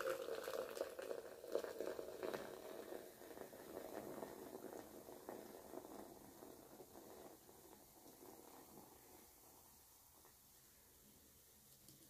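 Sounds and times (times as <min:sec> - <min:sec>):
soda fizzing: 0:00.0 - 0:12.0
soda pouring into a cup: 0:00.0 - 0:12.0.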